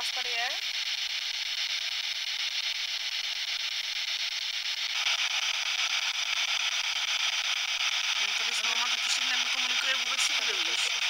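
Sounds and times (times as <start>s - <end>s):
radio static hissing: 0.0s - 11.0s.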